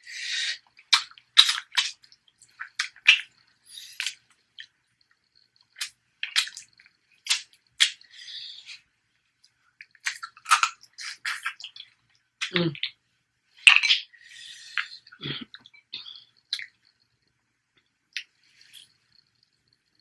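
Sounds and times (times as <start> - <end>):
wet chewing and mouth noises: 0.0 - 13.0, 13.6 - 17.3, 18.1 - 20.0.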